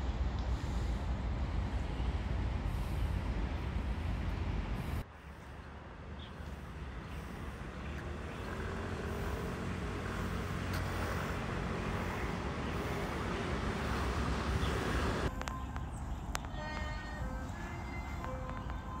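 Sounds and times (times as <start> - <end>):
faint engine hum: 0.0 - 19.0
road traffic rumble: 0.0 - 19.0.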